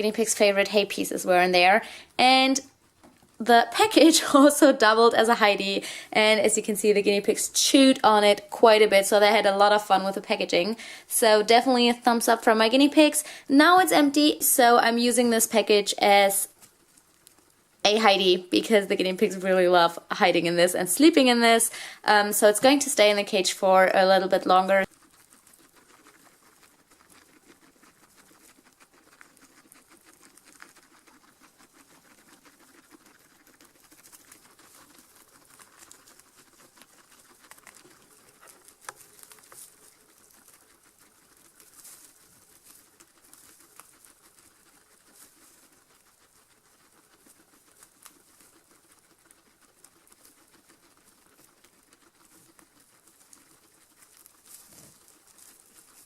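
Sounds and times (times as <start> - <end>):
guinea pigs chewing hay: 0.0 - 56.0
guinea pigs rustling in hay: 0.0 - 56.0.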